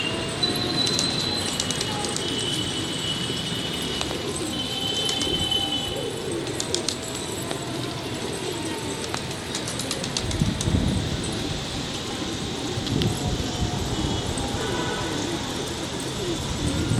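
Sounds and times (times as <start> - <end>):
high-pitched whistling tones: 0.0 - 16.9
pigeons cooing: 0.0 - 16.9.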